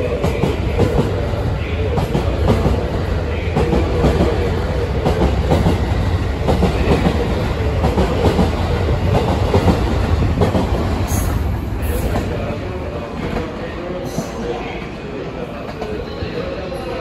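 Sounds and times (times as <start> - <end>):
electric train rumble: 0.0 - 16.8.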